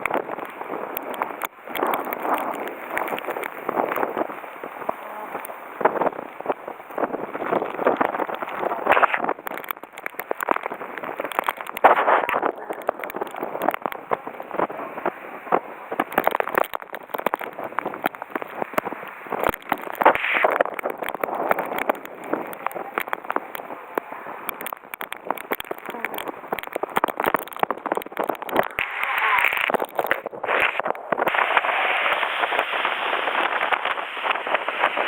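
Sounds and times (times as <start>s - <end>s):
gusting wind on microphone: 0.0s - 35.0s
raindrops crackling: 0.0s - 35.0s.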